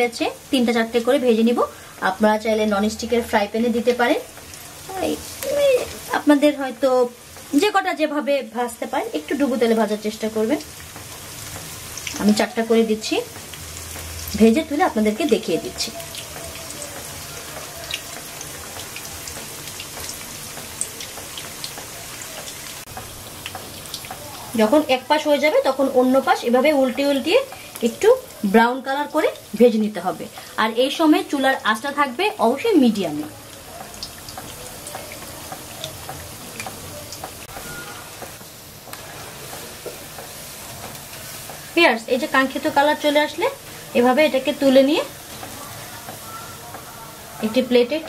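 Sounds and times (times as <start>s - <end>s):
fish deep-frying in oil: 0.0s - 48.0s.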